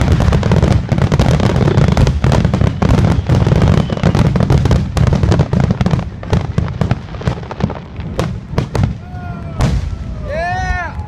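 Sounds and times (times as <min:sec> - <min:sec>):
deep rumble of fireworks: 0:00.0 - 0:11.0
fireworks bangs and crackle: 0:00.0 - 0:11.0.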